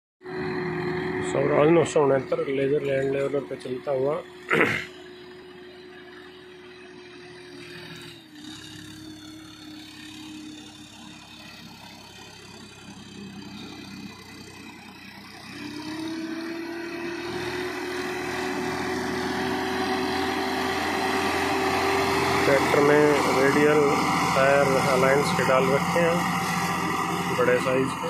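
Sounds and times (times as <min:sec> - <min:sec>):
tractor diesel engine running: 0:00.2 - 0:28.0.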